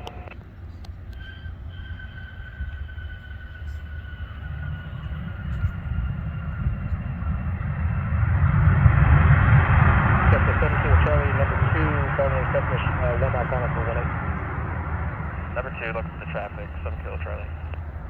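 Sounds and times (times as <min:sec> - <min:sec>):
jet engine whine: 0:00.0 - 0:18.0
jet engines rumbling: 0:00.0 - 0:18.0.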